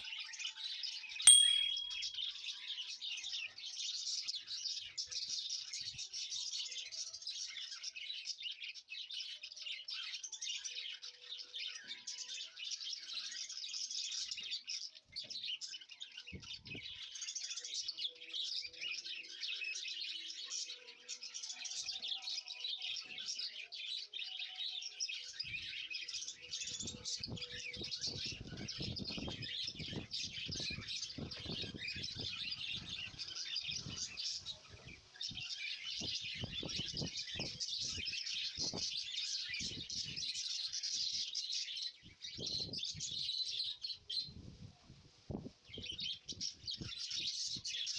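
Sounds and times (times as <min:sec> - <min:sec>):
small birds chirping: 0:00.0 - 0:44.7, 0:45.3 - 0:47.9.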